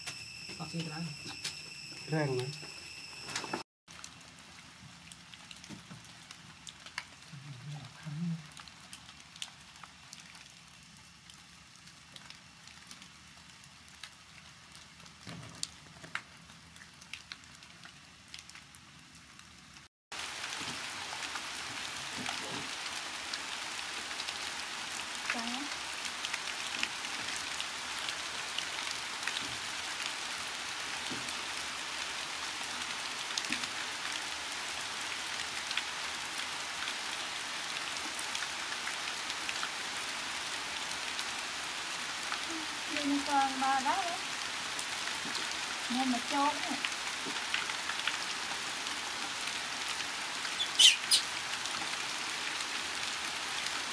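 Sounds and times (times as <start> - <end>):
steady rain-like hiss: 0.0 - 53.9.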